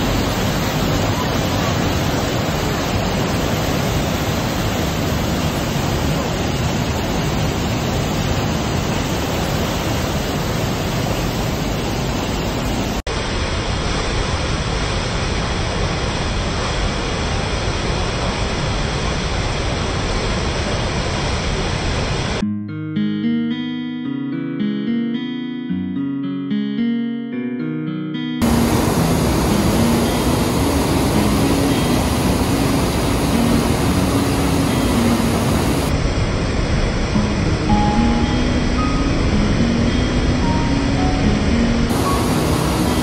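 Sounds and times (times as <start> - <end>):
waterfall roaring: 0.0 - 22.4, 28.4 - 43.0.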